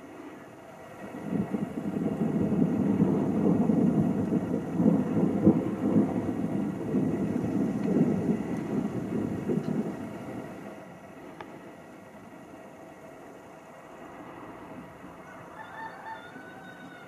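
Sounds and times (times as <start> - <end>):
rolling thunder rumble: 0.0 - 15.5.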